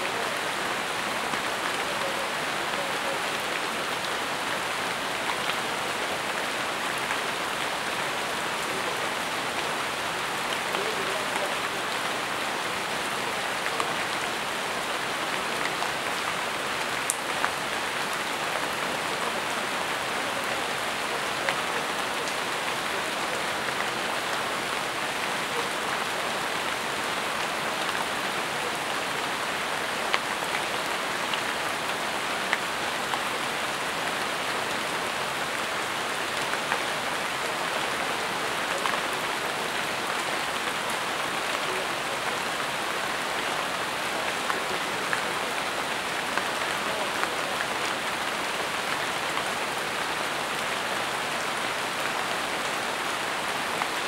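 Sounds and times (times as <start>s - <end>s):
rain on leaves: 0.0s - 54.0s.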